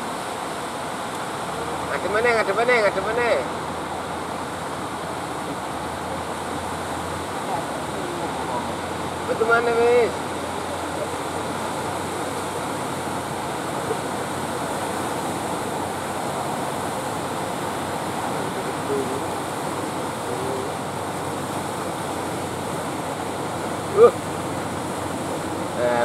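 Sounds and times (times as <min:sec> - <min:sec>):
surf breaking and washing ashore: 0:00.0 - 0:26.0.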